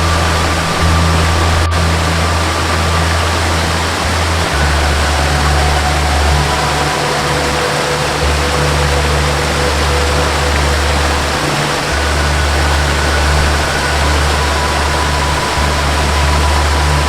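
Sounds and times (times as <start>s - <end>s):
soft melody of held notes: 0.0s - 17.0s
waterfall rushing: 0.0s - 17.0s.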